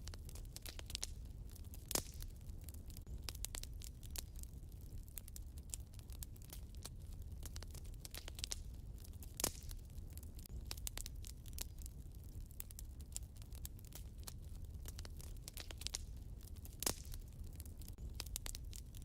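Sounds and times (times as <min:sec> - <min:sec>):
flames rumbling: 0:00.0 - 0:19.0
loud fire pops: 0:00.0 - 0:19.0
wood fire crackling: 0:00.0 - 0:19.0.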